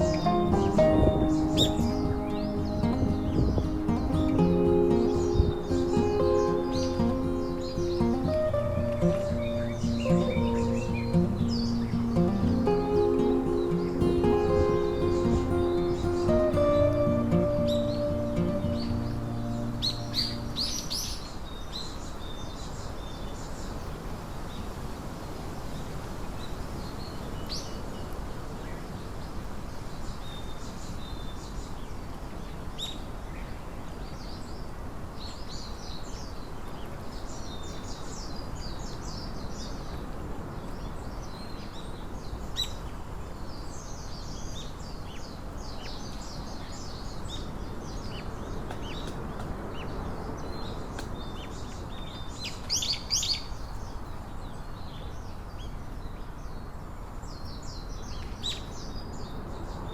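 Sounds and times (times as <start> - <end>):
low background hiss: 0.0 - 59.9
songbirds chirping and trilling: 0.0 - 59.9.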